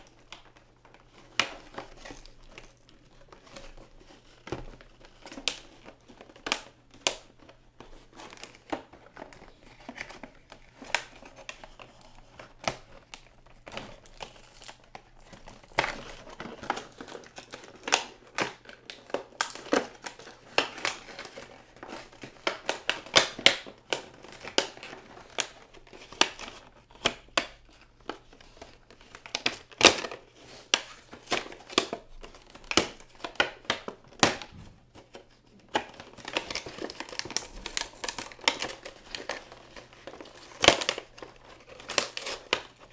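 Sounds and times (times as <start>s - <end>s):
packaging crinkling and tearing: 0.0s - 42.9s.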